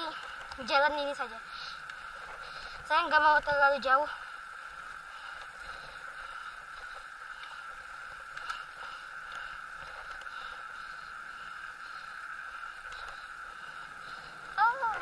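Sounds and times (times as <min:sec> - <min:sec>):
bicycle tyres hissing on asphalt: 0:00.0 - 0:15.0
faint clicks and rattles: 0:00.0 - 0:15.0.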